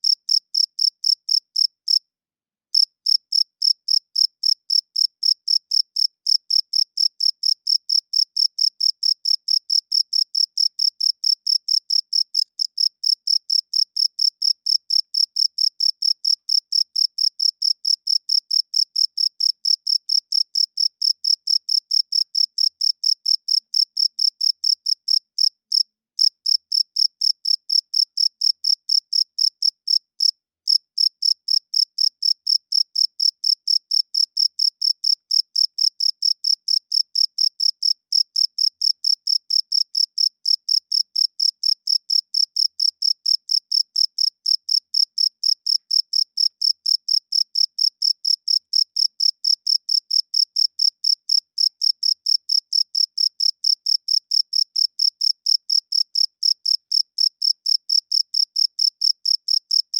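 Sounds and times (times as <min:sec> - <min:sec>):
cricket chirping: 0:00.0 - 0:02.0, 0:02.8 - 0:59.9.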